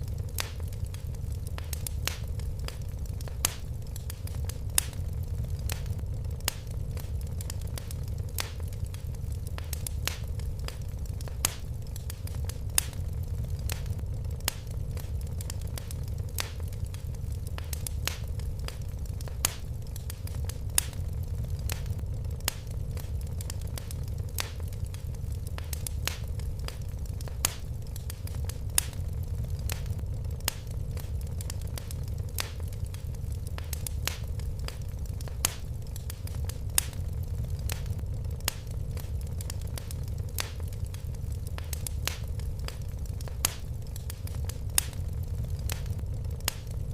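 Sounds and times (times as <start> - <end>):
fire crackling and popping: 0.0 - 46.9
low rumble of flames: 0.0 - 46.9.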